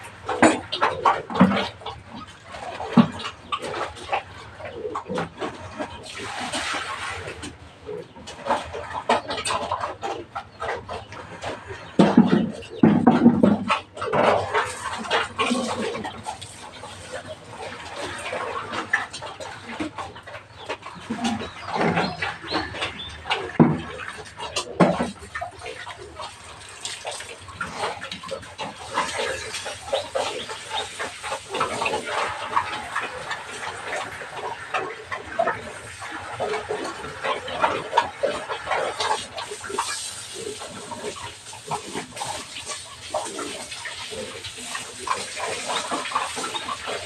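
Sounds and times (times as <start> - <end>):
chickens clucking: 0.0 - 47.0
farmyard animal calls: 0.0 - 47.0
pigs grunting and squealing: 0.0 - 47.0
water splashing: 5.6 - 9.9, 13.2 - 47.0.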